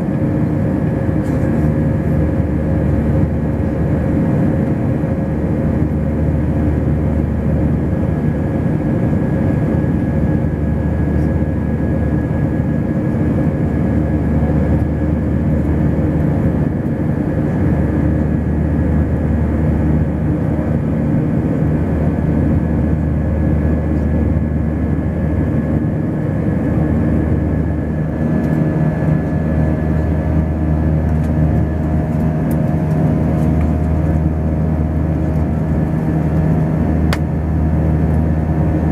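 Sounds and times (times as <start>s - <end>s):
jet engines roaring in cabin: 0.0s - 38.9s.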